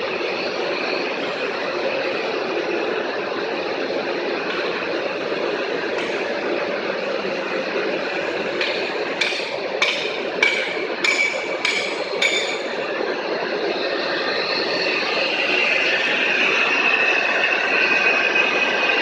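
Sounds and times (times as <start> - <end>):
machine running: 0.0 - 19.0.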